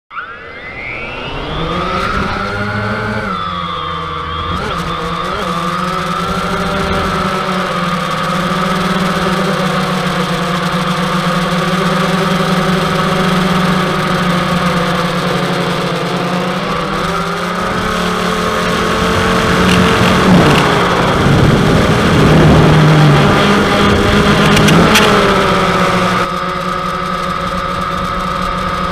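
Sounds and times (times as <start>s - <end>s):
drone propellers buzzing: 0.1s - 28.9s.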